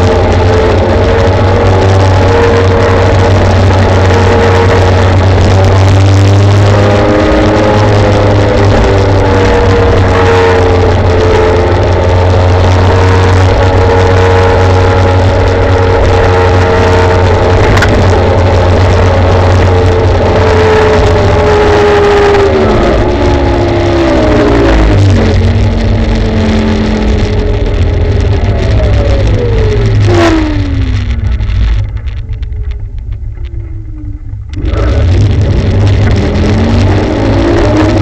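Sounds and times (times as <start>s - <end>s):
humming drone: 0.0s - 38.0s
traffic and road noise: 0.0s - 38.0s.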